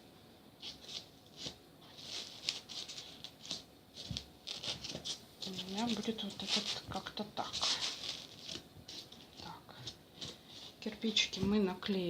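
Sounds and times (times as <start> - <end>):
foam bricks rubbing on foam board: 0.6 - 11.7.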